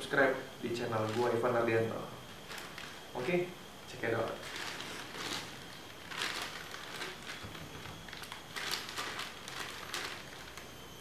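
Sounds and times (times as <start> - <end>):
plastic packaging crinkling: 0.8 - 3.4, 4.2 - 10.8.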